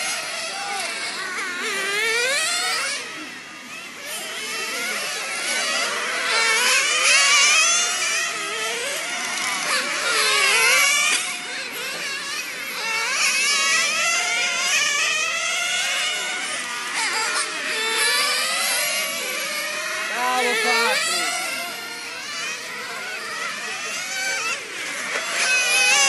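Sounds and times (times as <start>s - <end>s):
model car engines whining: 0.0s - 26.0s.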